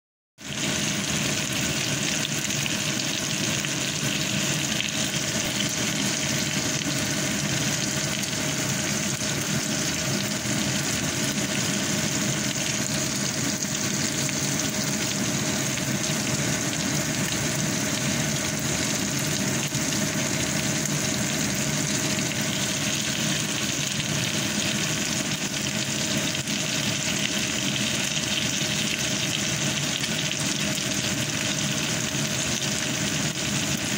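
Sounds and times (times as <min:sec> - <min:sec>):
pork sizzling in hot oil: 0:00.4 - 0:33.9.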